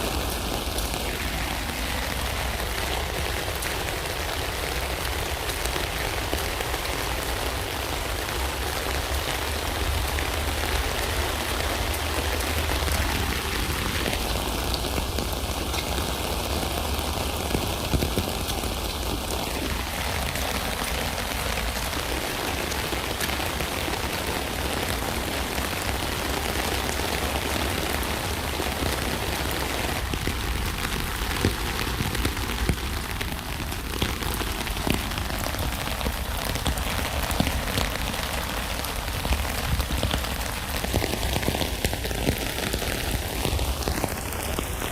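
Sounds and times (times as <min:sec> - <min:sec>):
rain falling on a tent: 0:00.0 - 0:44.9.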